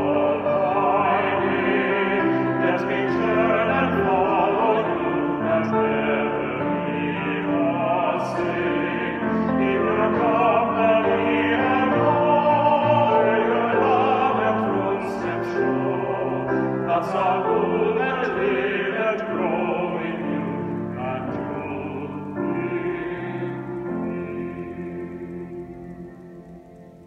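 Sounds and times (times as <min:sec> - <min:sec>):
male vocal quartet singing: 0:00.0 - 0:26.1
grand piano: 0:00.0 - 0:27.0.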